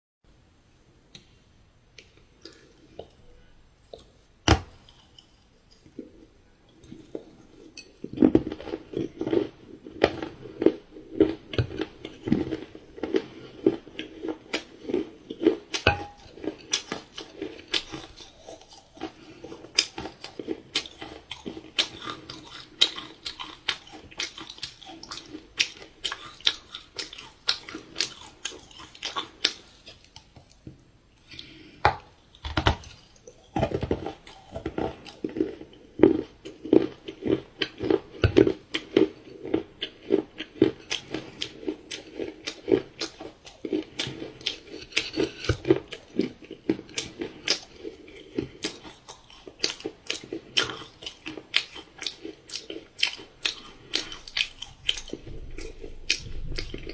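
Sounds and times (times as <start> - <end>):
chewing with wet mouth clicks: 4.8 - 31.6, 32.3 - 56.9.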